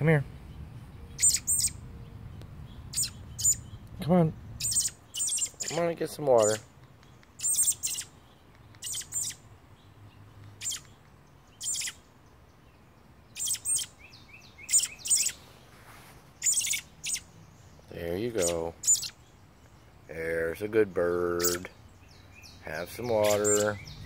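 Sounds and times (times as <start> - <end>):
young bird chirping: 0.4 - 24.0.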